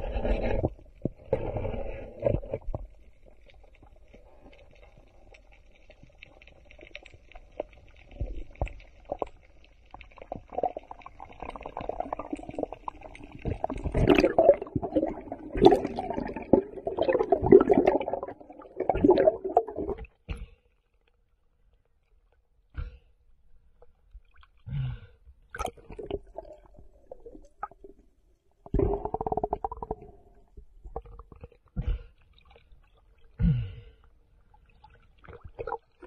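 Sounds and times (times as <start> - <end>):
faint underwater crackling: 0.0 - 36.0.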